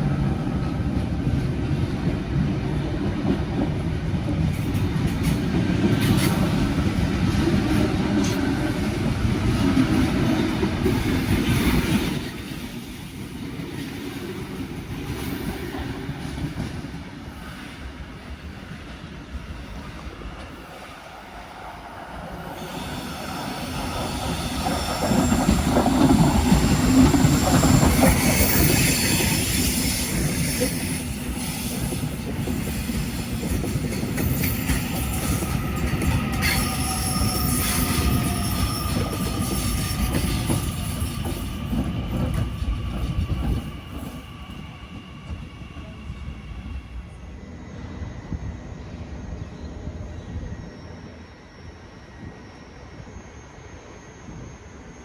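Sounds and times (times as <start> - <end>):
train rumbling on rails: 0.0 - 55.0
train wheel squeal: 2.6 - 55.0.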